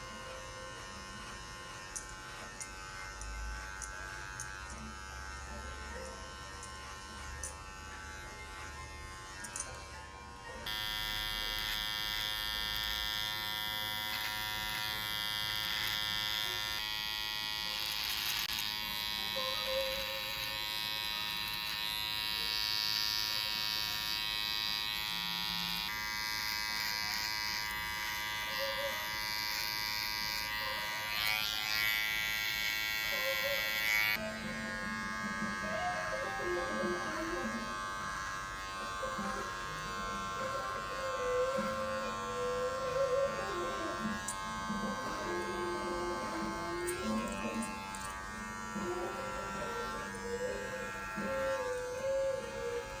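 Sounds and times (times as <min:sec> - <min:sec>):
electric beard clipper buzzing: 0:00.0 - 0:53.0.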